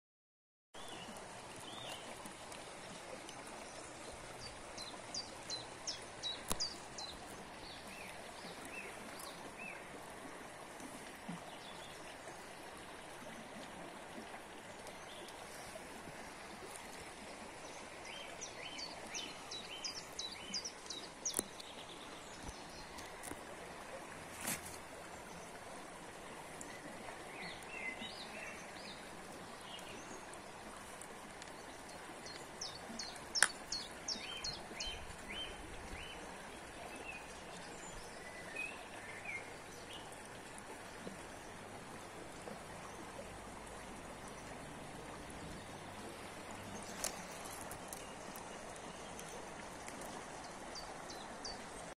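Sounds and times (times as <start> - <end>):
stream babbling over stones: 0.8 - 51.9.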